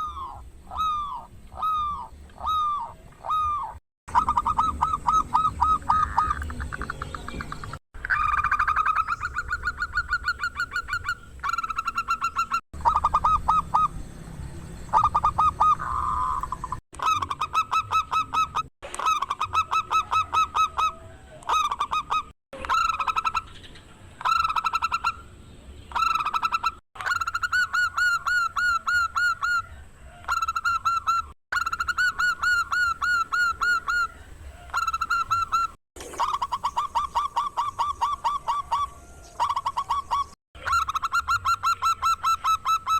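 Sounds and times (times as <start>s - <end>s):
dove cooing: 0.0s - 13.9s, 14.9s - 23.6s, 26.0s - 42.9s.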